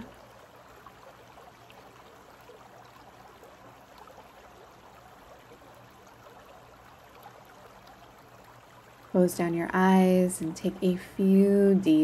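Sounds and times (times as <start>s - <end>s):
creek burbling over rocks: 0.0s - 12.0s.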